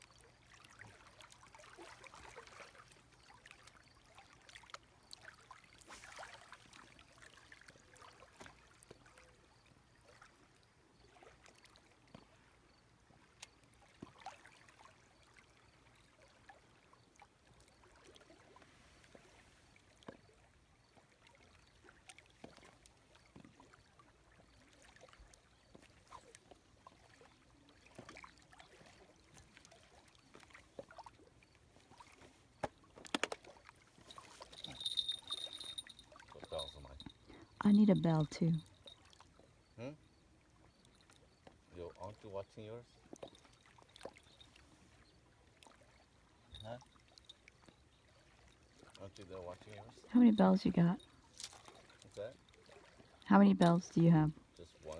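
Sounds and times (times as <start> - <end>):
water lapping: 0.1 - 54.9.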